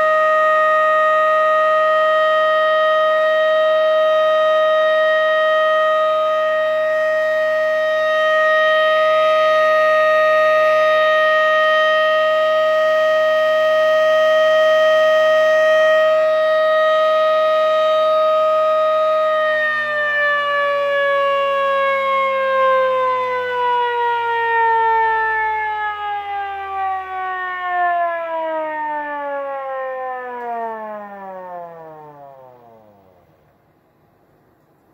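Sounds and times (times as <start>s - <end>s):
siren winding down: 0.0s - 33.3s.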